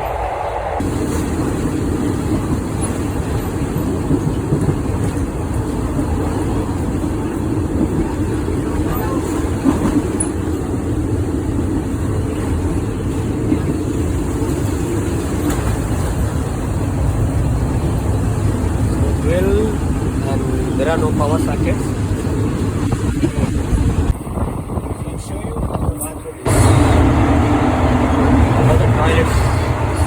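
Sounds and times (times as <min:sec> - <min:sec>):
moving train rumble: 0:00.0 - 0:30.0.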